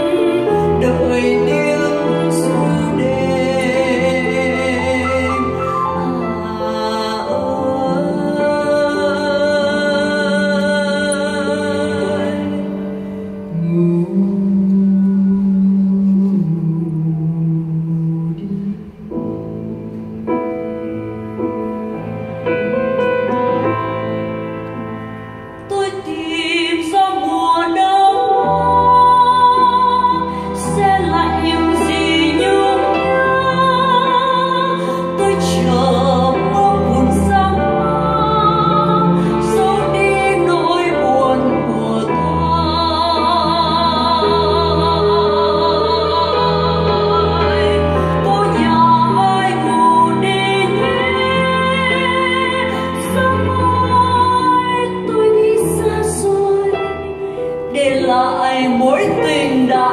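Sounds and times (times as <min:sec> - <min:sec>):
woman singing with vibrato: 0:00.0 - 0:19.8, 0:25.6 - 0:59.9.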